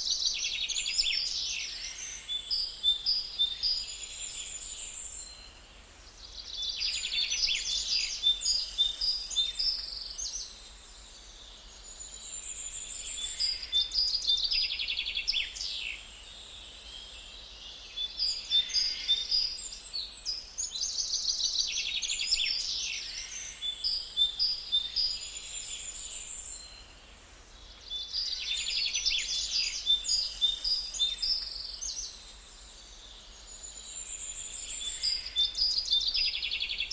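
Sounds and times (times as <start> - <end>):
birds chirping and trilling: 0.0 - 36.9.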